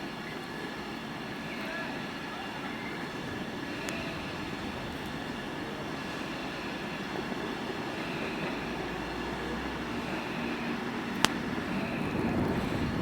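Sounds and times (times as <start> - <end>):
faint steady tones: 0.0 - 13.0
train rumble and hum: 0.0 - 13.0.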